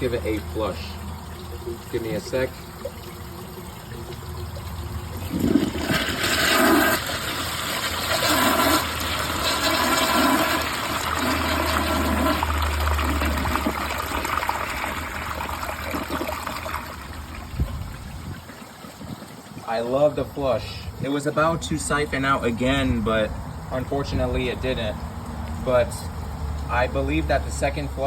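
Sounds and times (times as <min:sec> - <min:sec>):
toilet flushing with gurgles: 0:00.0 - 0:28.0.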